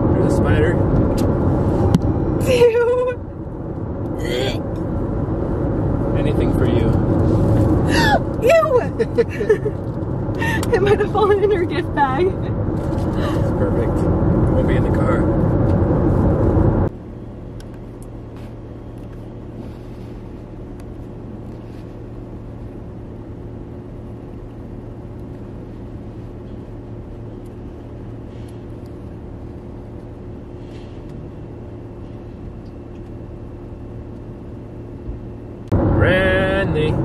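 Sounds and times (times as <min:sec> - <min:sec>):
car engine hum from inside: 0:00.0 - 0:37.0.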